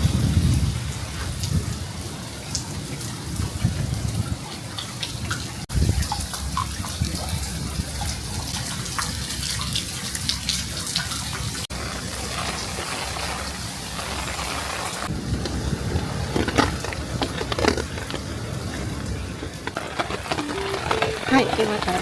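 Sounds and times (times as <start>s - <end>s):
heavy rain falling: 0.0s - 22.0s
raindrops ticking on surfaces: 0.0s - 22.0s.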